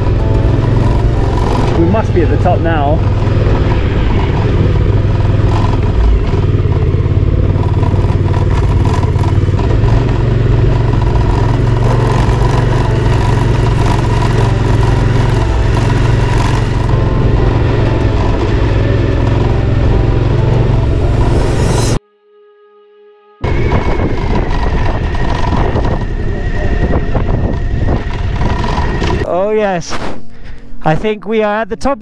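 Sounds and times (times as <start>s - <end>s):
motorcycle engine at low revs: 0.0s - 22.0s, 23.4s - 29.2s
rattling on gravel track: 0.0s - 22.0s, 23.4s - 29.3s.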